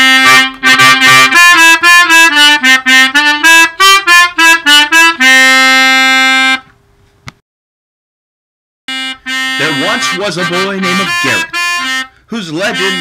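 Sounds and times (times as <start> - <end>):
melodica playing: 0.0 - 6.7, 8.9 - 13.0.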